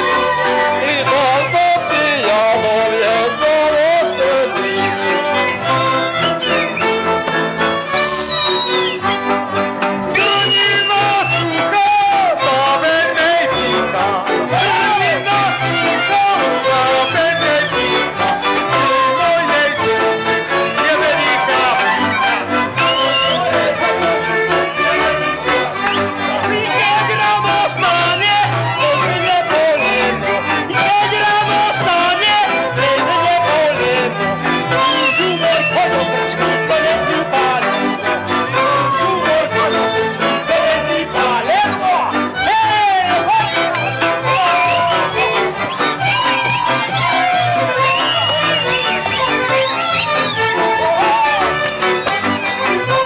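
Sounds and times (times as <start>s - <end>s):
fiddles: 0.0s - 53.0s
folk band dance music: 0.0s - 53.0s.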